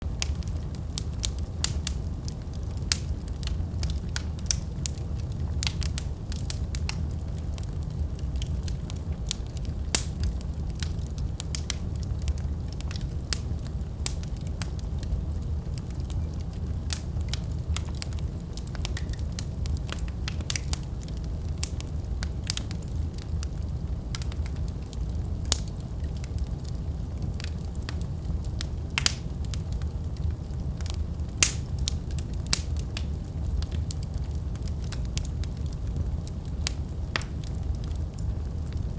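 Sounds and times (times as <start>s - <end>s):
fire rumbling in fireplace: 0.0s - 38.9s
logs crackling and popping: 0.0s - 38.9s.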